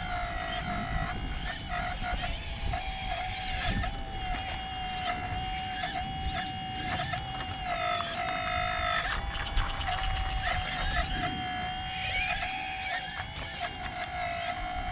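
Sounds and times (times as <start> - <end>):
hydraulic pump whining: 0.0 - 14.9.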